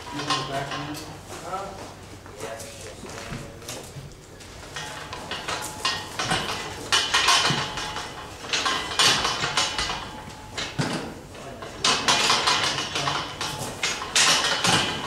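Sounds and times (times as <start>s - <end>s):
clatter and rustling: 0.0s - 15.0s.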